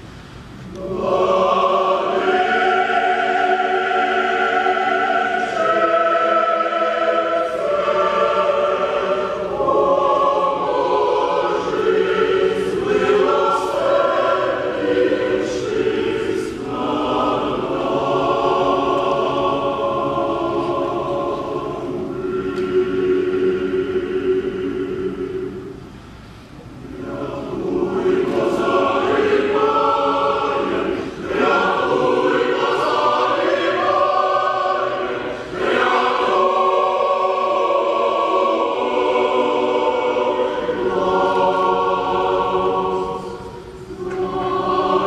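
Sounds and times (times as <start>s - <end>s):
mixed choir singing: 0.6s - 25.9s, 26.6s - 45.0s.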